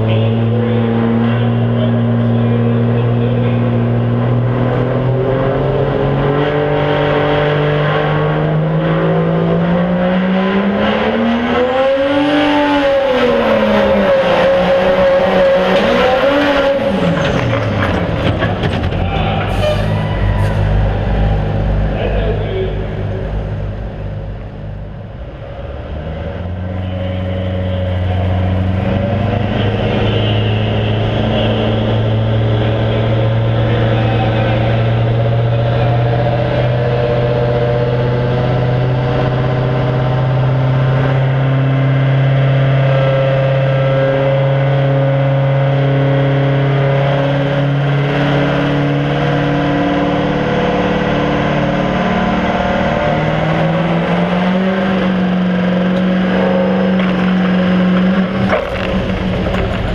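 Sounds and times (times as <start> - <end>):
diesel pickup engine revving: 0.0 - 59.9.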